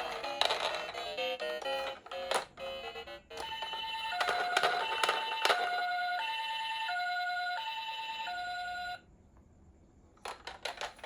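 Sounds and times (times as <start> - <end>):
toy two-tone siren: 0.0 - 9.0.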